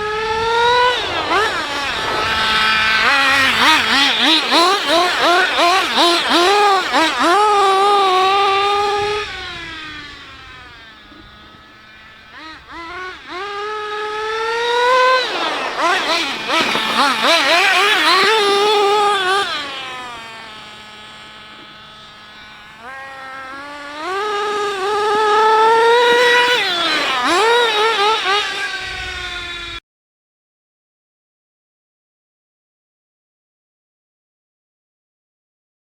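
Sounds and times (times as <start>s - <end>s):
nitro rc car engine revving: 0.0s - 29.8s.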